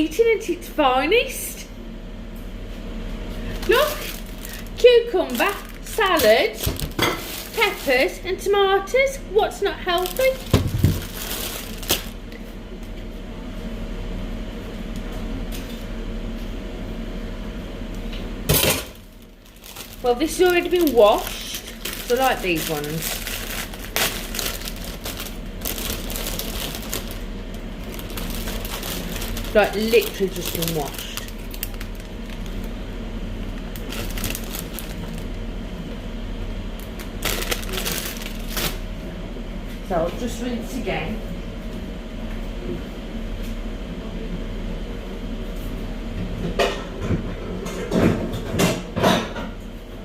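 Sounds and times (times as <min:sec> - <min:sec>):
air fryer fan humming: 0:00.0 - 0:50.0.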